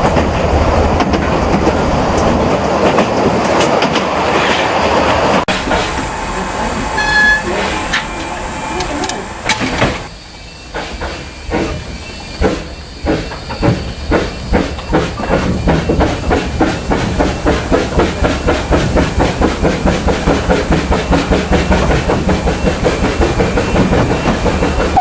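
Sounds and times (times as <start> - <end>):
steam locomotive exhaust beats: 0.0 - 25.0
steam hissing: 4.6 - 25.0.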